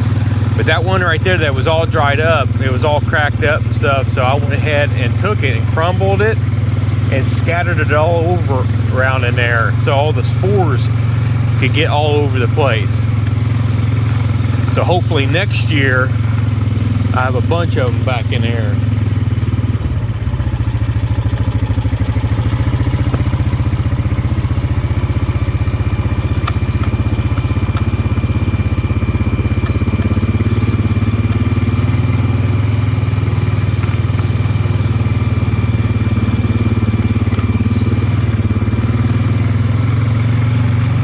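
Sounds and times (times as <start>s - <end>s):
atv engine rumbling: 0.0s - 41.0s.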